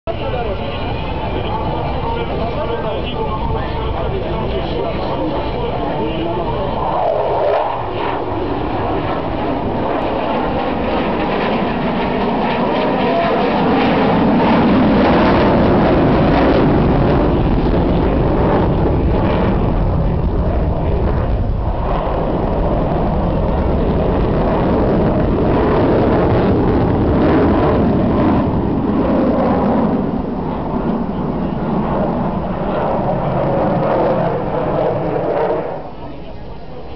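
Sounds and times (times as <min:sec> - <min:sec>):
jet aircraft flying overhead: 0:00.1 - 0:36.9.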